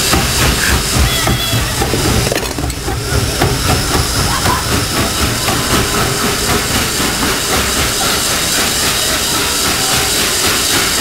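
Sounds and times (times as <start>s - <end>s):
locomotive wheels knocking: 0.0s - 11.0s
rhythmic locomotive exhaust: 0.0s - 11.0s
steam hissing: 0.0s - 11.0s.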